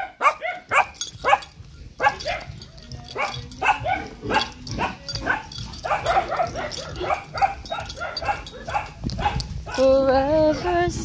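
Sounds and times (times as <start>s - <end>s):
dog yipping: 0.0s - 10.9s.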